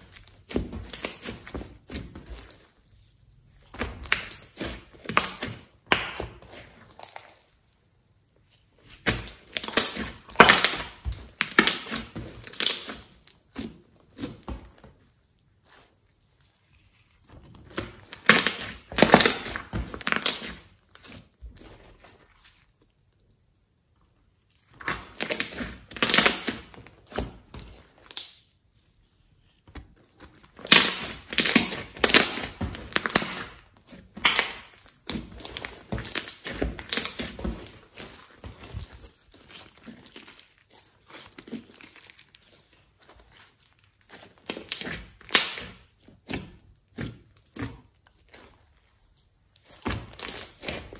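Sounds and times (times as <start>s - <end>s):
slime squelching and crackling: 0.0s - 50.9s.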